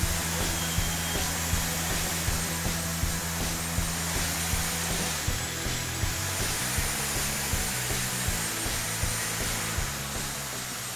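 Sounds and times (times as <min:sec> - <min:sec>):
background music with beat: 0:00.0 - 0:10.9
power tool whining on wood: 0:00.0 - 0:10.9.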